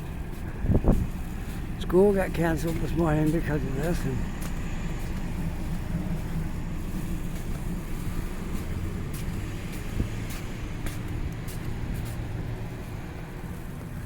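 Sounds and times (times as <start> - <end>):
city street traffic: 0.0 - 14.0
wind: 0.0 - 14.0.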